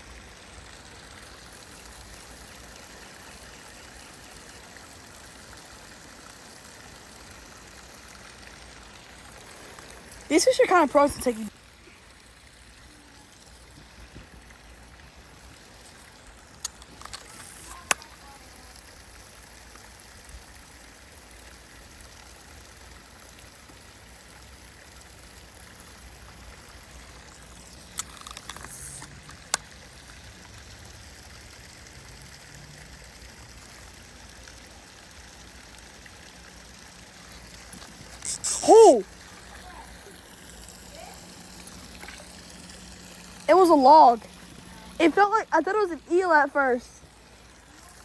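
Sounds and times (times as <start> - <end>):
creek water running: 0.0 - 48.0.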